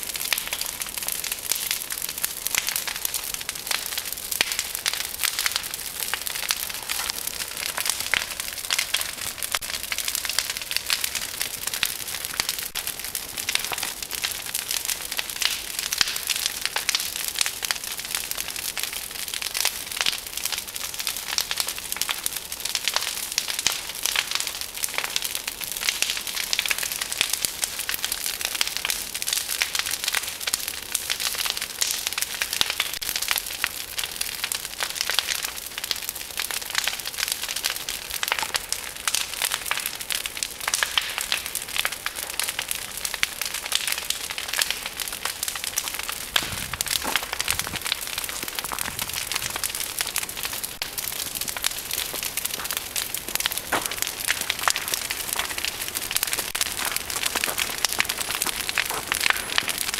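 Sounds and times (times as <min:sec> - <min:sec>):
bonfire crackling and popping: 0:00.0 - 0:59.9.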